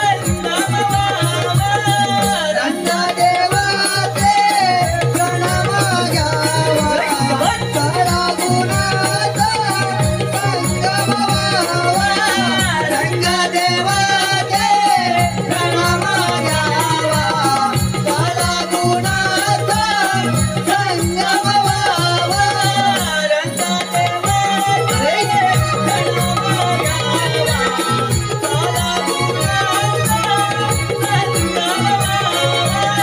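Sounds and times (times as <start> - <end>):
fast hand-drum beats: 0.0 - 33.0
jingling percussion: 0.0 - 33.0.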